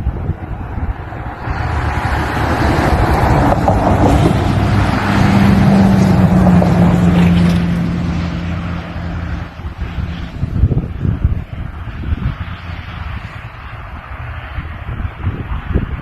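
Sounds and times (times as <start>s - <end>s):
engine droning past: 0.0s - 15.7s
wind rushing on microphone: 0.0s - 16.0s.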